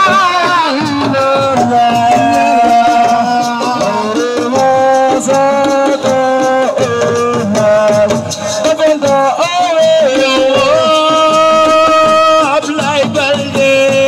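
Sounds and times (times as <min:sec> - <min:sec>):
man singing held notes: 0:00.0 - 0:14.0
steady drum strokes: 0:00.0 - 0:14.0.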